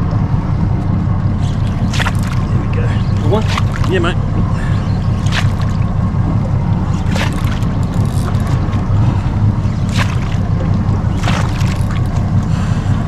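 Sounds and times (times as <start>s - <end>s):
low rumble: 0.0s - 13.0s
fish splashing: 1.4s - 13.0s.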